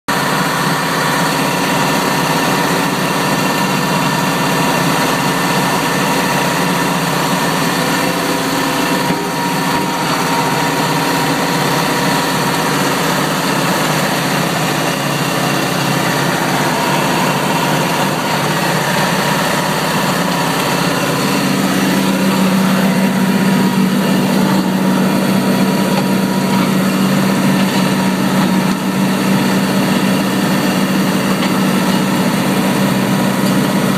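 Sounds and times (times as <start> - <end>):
tractor engine running: 0.1 - 33.9
flail mower chopping branches: 1.4 - 33.9.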